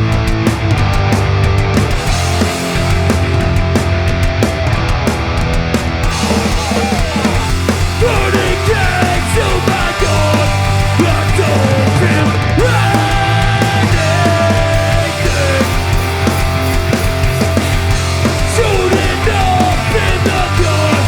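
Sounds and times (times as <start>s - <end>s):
lead guitar with bent notes: 0.0s - 20.6s
punk band playing live: 0.0s - 21.0s.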